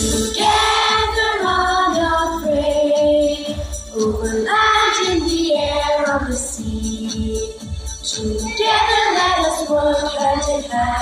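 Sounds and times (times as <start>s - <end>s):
instrumental accompaniment with beat: 0.0s - 11.0s
children's choir singing: 0.3s - 11.0s.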